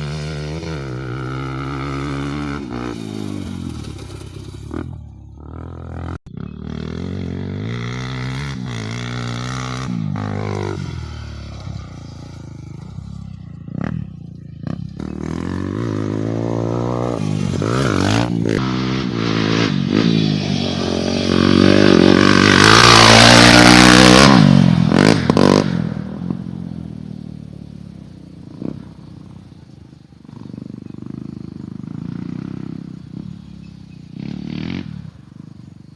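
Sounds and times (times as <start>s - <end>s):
motocross bike engine revving: 0.0s - 35.7s.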